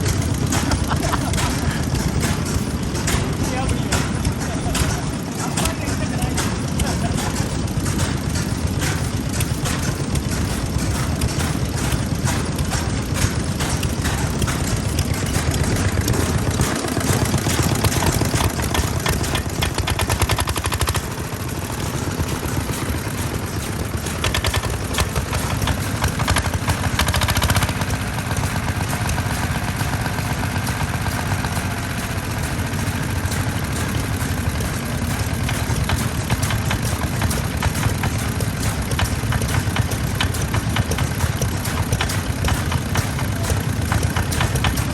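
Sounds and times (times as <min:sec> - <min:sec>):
farm engine exhaust popping: 0:00.0 - 0:44.9.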